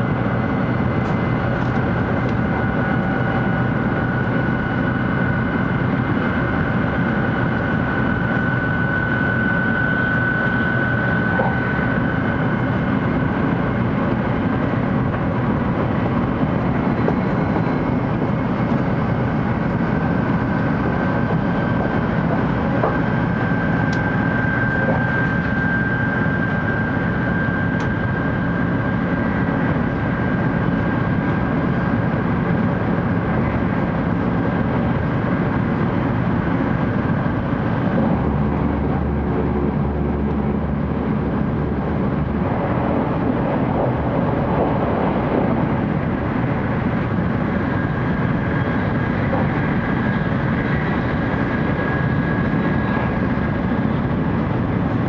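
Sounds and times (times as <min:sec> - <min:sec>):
train cabin rumble: 0:05.4 - 0:28.1, 0:28.8 - 0:55.0.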